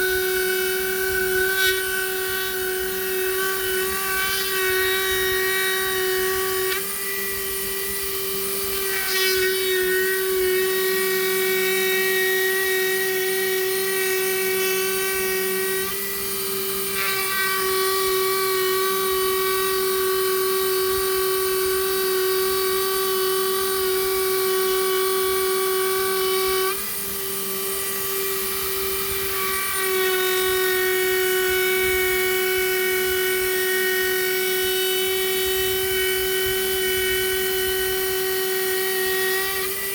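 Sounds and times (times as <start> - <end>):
power carving tool grinding wood: 0.0 - 39.9.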